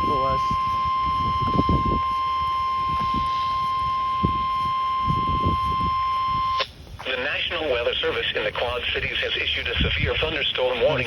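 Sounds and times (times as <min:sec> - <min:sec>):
weather radio alarm tone: 0:00.0 - 0:11.0.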